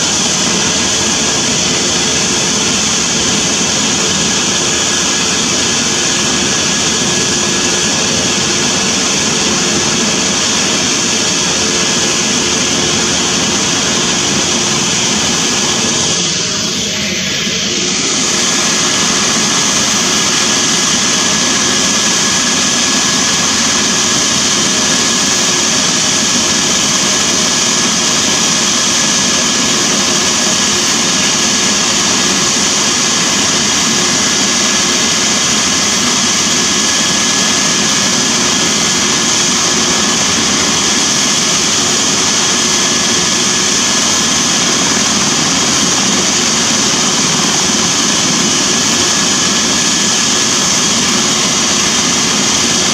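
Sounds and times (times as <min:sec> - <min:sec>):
helicopter rotor rumble: 0:00.0 - 0:52.9
helicopter turbine whine: 0:00.0 - 0:52.9.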